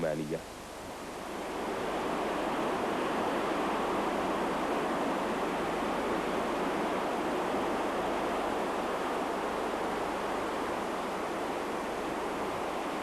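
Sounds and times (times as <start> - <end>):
sea water rushing: 0.8 - 13.0.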